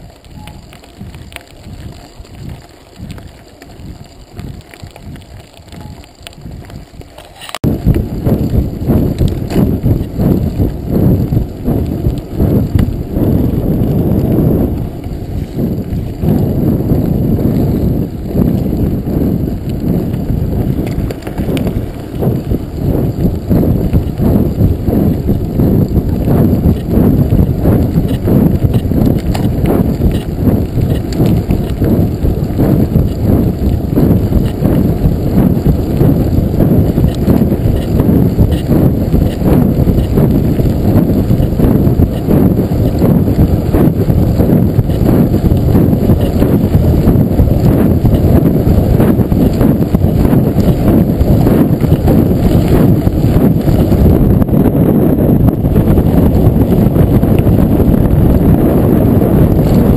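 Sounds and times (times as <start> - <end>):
bike rattling: 0.0 - 59.9
bike tyres rolling on gravel: 0.0 - 59.9
wind on microphone: 0.0 - 59.9.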